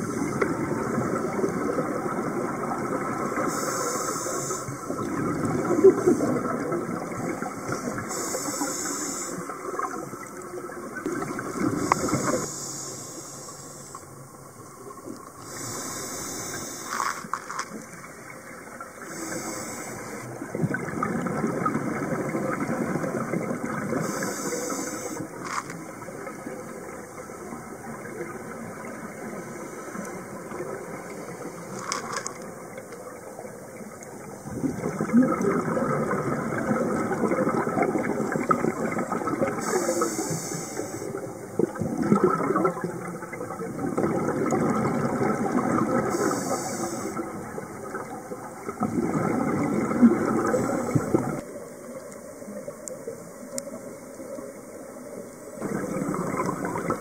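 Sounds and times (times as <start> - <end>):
sea water rushing and sloshing: 0.0 - 57.0.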